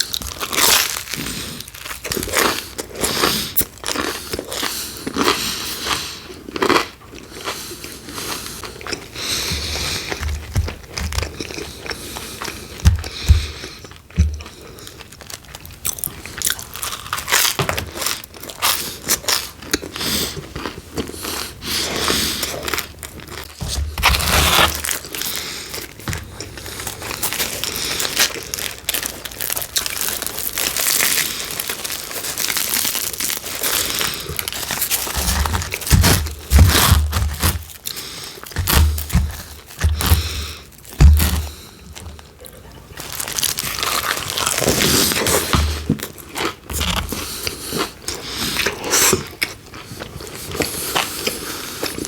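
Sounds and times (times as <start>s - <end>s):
crunchy bites and chewing: 0.0s - 42.4s, 43.0s - 52.0s.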